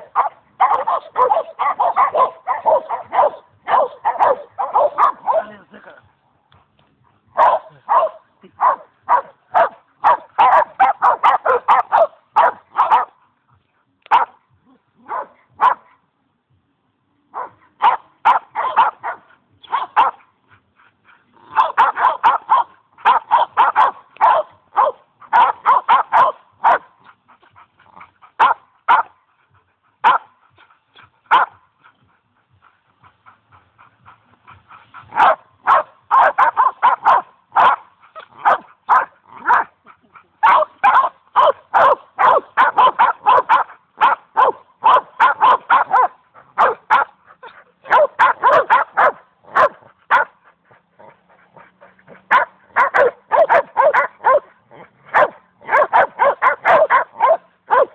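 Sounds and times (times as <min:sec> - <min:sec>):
dogs barking: 0:00.0 - 0:05.6, 0:07.3 - 0:13.3, 0:14.1 - 0:14.4, 0:15.0 - 0:16.0, 0:17.3 - 0:20.4, 0:21.4 - 0:29.2, 0:30.0 - 0:32.3, 0:33.0 - 0:57.9.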